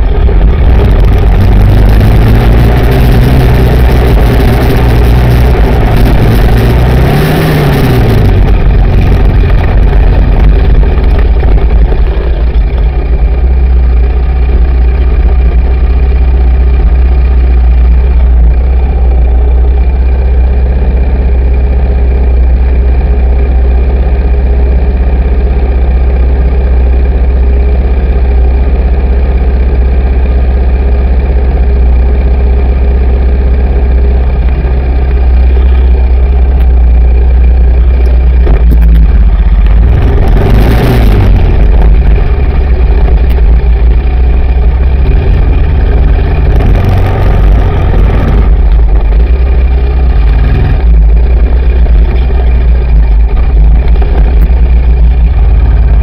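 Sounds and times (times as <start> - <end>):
quad engine revving and idling: 0.0 - 56.0.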